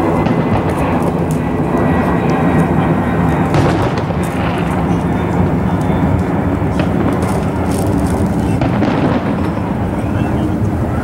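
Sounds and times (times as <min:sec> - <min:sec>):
fireworks cracks: 0:00.0 - 0:02.8, 0:03.4 - 0:10.4
fireworks booming: 0:00.0 - 0:10.9.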